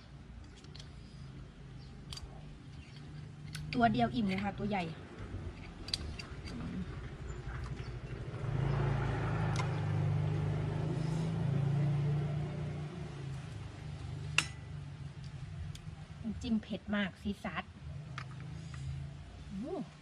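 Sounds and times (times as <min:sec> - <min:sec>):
vehicle engine humming: 0:00.0 - 0:16.5.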